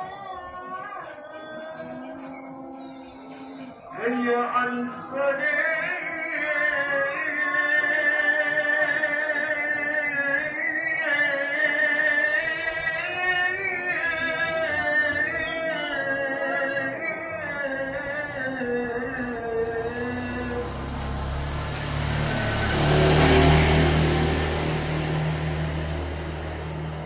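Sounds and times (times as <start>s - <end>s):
slow sung melody: 0.0s - 27.0s.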